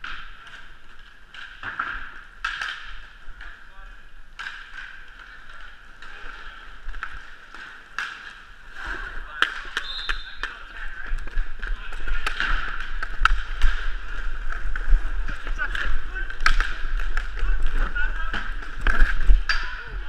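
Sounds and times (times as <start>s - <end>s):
hockey sticks and puck clacking: 0.0s - 20.0s
skate wheels rolling: 0.0s - 20.0s.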